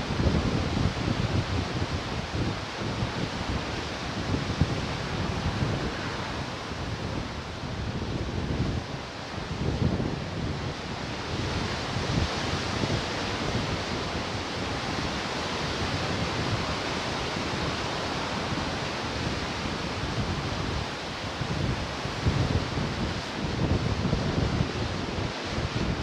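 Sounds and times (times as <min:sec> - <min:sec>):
ocean surf washing on shore: 0:00.0 - 0:26.0
wind buffeting microphone: 0:00.0 - 0:26.0.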